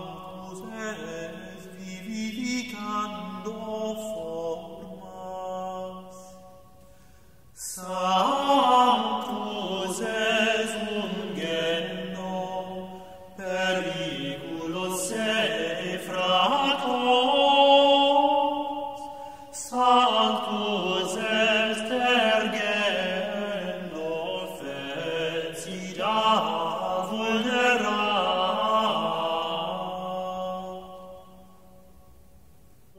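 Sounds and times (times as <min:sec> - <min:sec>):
slow chanted singing: 0:00.0 - 0:32.9.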